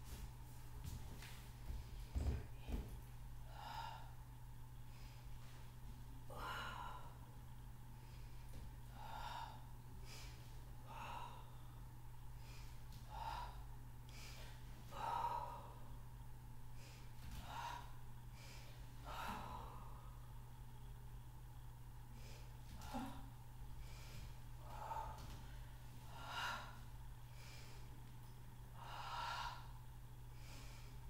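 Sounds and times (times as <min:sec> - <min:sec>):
steady low hum: 0:00.0 - 0:31.0
woman breathing hard: 0:01.7 - 0:05.6, 0:06.3 - 0:16.0, 0:16.7 - 0:20.4, 0:22.1 - 0:31.0.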